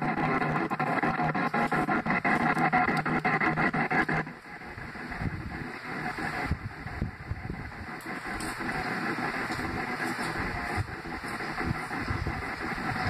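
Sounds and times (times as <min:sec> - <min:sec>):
loud choppy sound: 0:00.0 - 0:13.0
steady rumbling hiss: 0:00.0 - 0:13.0.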